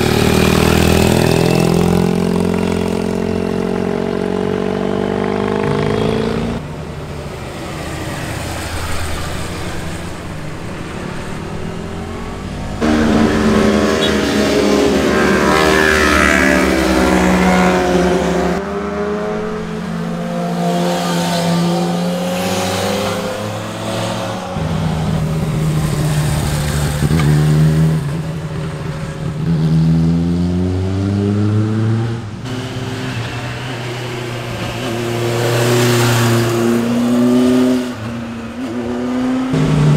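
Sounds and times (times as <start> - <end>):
motorcycles revving and passing: 0.0 - 39.9.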